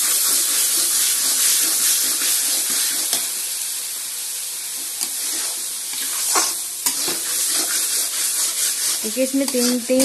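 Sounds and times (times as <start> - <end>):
steel spoon scraping a pan: 0.0 - 3.3, 5.0 - 10.0
greens sizzling in a wok: 0.0 - 10.0.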